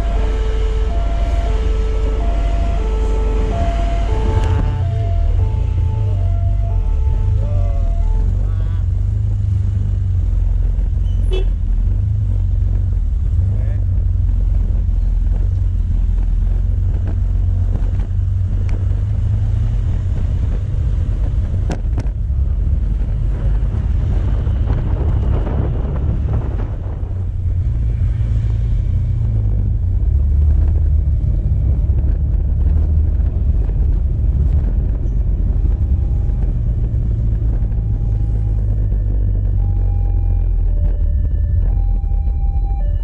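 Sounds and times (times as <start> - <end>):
road noise: 0.0 - 43.0
wind rumble on microphone: 0.0 - 43.0.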